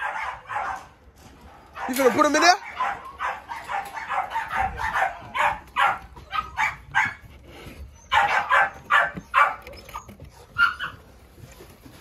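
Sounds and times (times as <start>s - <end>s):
dogs barking: 0.0s - 7.3s, 8.0s - 11.1s.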